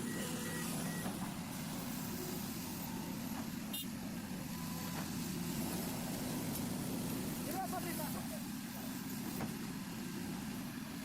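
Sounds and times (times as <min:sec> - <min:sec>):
heavy diesel machinery engines: 0:00.0 - 0:11.0.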